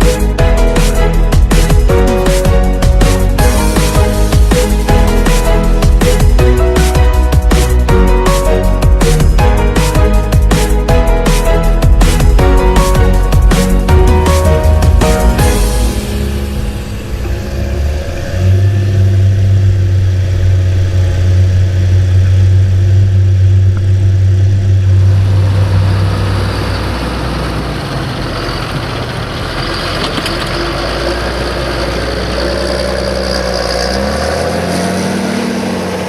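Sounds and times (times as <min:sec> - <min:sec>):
tractor diesel engine drone: 0:00.0 - 0:36.0.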